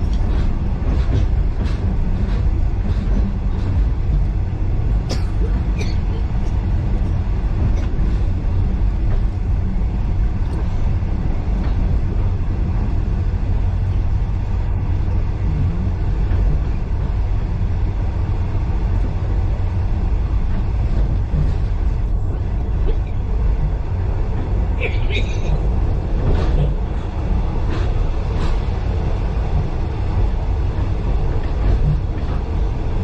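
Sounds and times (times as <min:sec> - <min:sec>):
train carriage rumbling on rails: 0:00.0 - 0:33.0.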